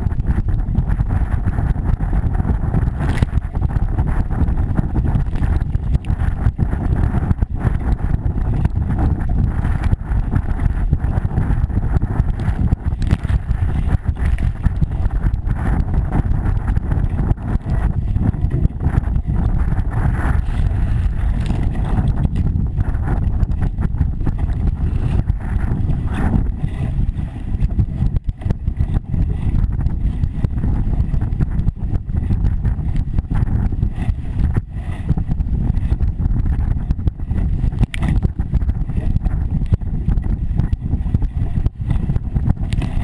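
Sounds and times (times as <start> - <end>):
water rushing along hull: 0.0 - 43.0
wind buffeting microphone: 0.0 - 43.0.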